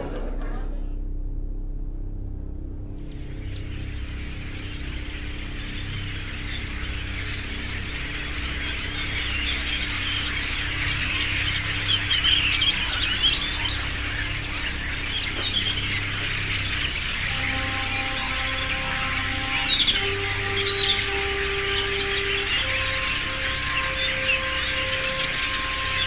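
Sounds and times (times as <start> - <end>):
low steady drone: 0.0 - 26.0
flock of birds chirping: 3.1 - 26.0.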